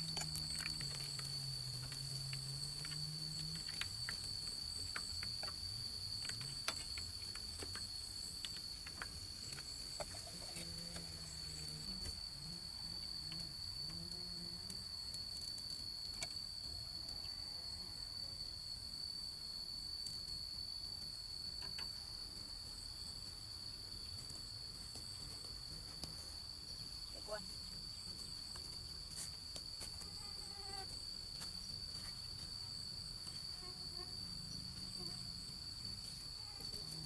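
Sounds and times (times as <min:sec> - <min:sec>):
insects trilling: 0:00.0 - 0:37.0.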